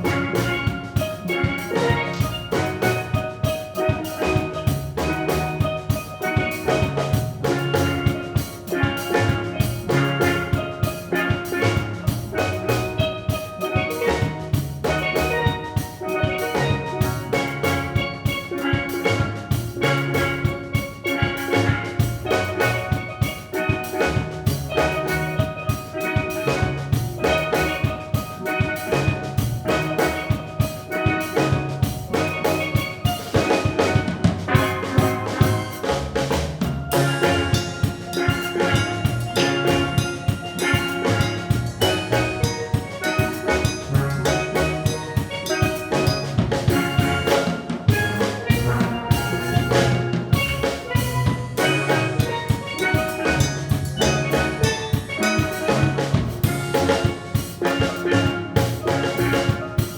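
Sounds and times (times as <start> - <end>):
drums and bass line: 0.0 - 59.9
steel drum ensemble playing: 0.0 - 59.9.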